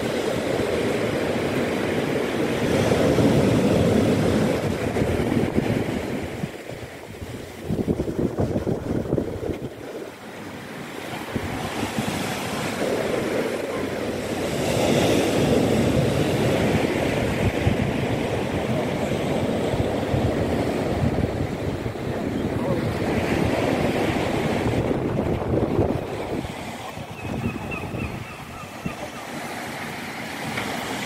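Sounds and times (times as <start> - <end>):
waves breaking on beach: 0.0 - 31.0
wind buffeting microphone: 0.0 - 31.0.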